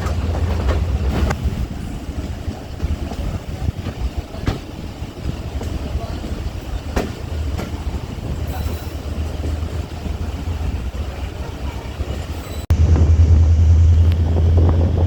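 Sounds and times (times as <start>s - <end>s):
wheels clicking over rail joints: 0.0s - 12.6s
train rumbling on track: 0.0s - 15.0s.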